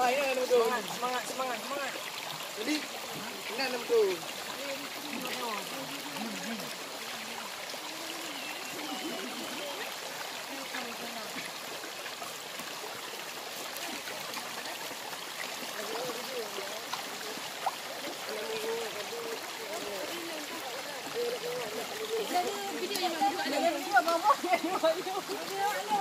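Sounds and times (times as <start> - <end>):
river running over rocks: 0.0 - 26.0
faint voices: 2.7 - 11.7, 13.6 - 26.0.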